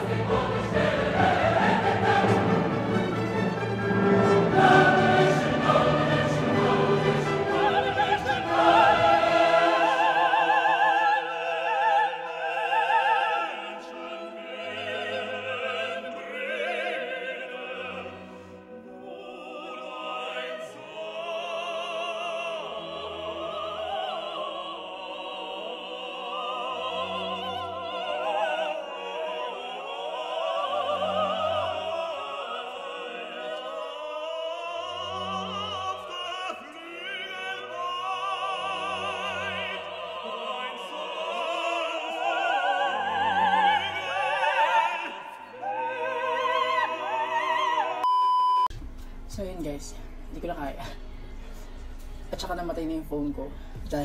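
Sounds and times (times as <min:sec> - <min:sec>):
operatic singing: 0:00.0 - 0:48.0
orchestral accompaniment: 0:00.0 - 0:48.0.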